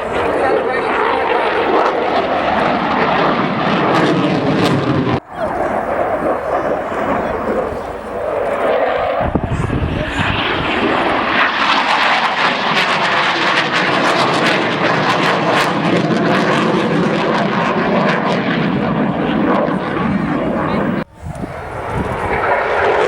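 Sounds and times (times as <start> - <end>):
aircraft engine drone: 0.0 - 23.0.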